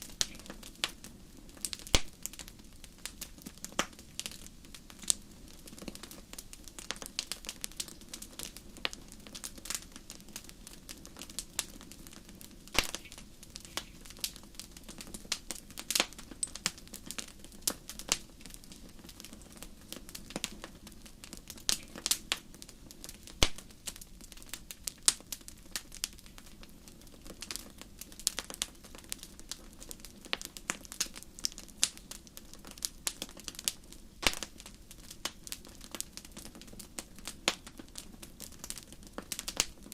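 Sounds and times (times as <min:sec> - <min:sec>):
loud pops from fire: 0:00.0 - 0:39.9
wood fire crackling: 0:00.0 - 0:39.9.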